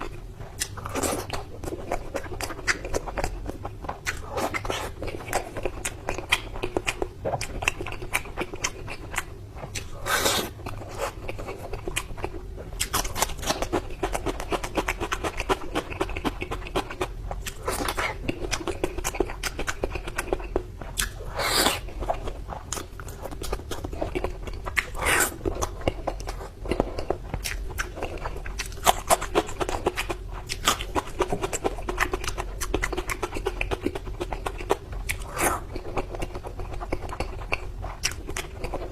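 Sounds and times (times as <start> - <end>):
person chewing and biting food: 0.0 - 38.9.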